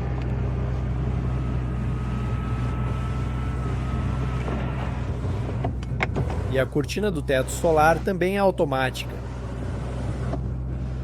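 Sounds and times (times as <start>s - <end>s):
steady low hum: 0.0s - 11.0s
sunroof motor whine: 0.0s - 11.0s.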